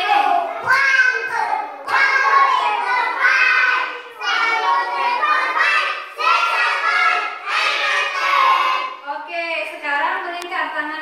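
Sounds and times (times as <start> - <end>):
children singing together: 0.0 - 9.0.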